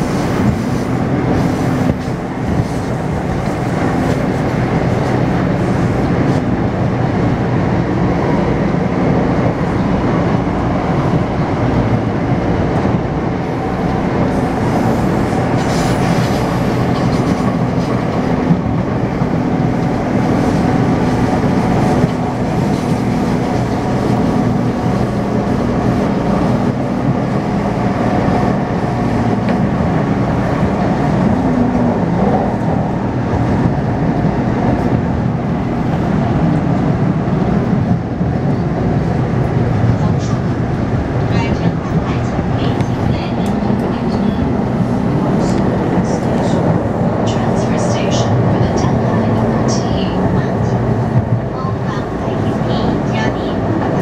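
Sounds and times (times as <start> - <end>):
train motor hum: 0.0 - 54.0
train wheels rumbling on track: 0.0 - 54.0.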